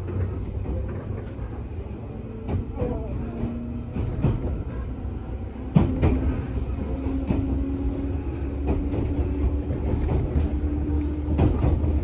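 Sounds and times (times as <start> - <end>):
train interior rumble: 0.0 - 12.0
wheels clacking over rail joints: 2.4 - 12.0.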